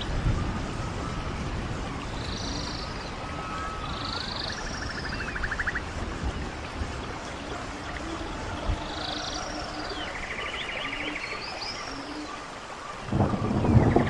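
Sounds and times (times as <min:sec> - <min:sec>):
running stream: 0:00.0 - 0:14.0
songbirds whistling and trilling: 0:00.0 - 0:14.0.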